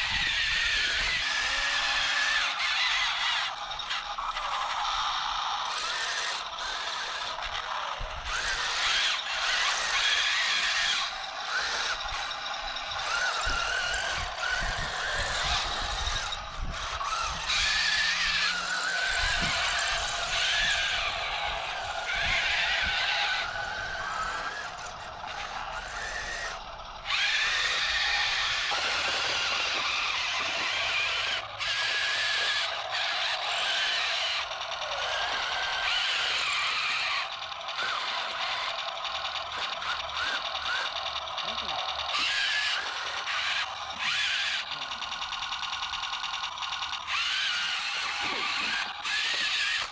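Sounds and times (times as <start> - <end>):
toy tank motors whining: 0.0 - 49.9.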